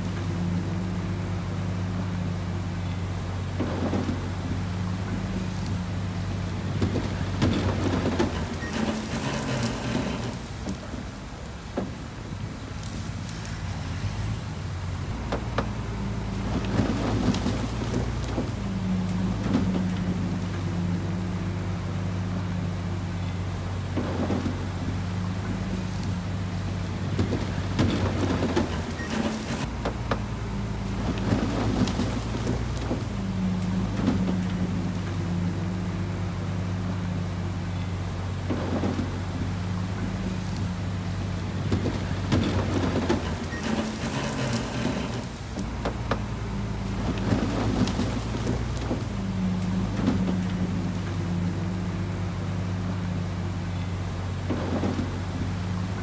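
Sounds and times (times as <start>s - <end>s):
heavy diesel machinery running: 0.0s - 56.0s
soil and stones crunching: 0.0s - 56.0s.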